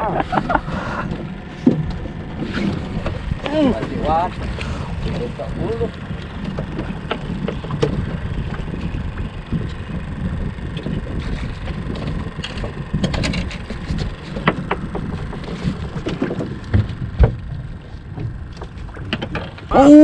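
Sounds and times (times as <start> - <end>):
wind and water around boat: 0.0 - 20.0.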